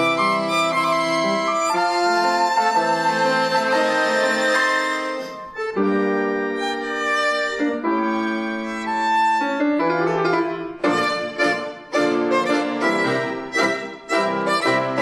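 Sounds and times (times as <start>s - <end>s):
accordion: 0.0s - 15.0s
piano: 0.0s - 15.0s
violin: 0.0s - 15.0s.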